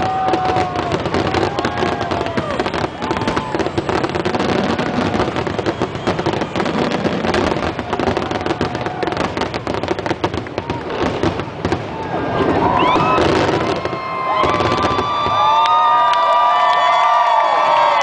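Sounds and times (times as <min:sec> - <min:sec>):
crowd cheering and whooping: 0:00.0 - 0:18.0
fireworks bangs and crackles: 0:00.0 - 0:18.0.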